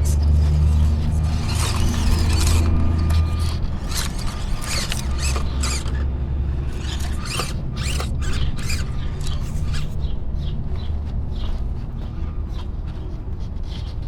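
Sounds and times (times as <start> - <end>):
small electric motor and gears: 0.0 - 14.0
tyres scraping on stone: 0.0 - 14.0.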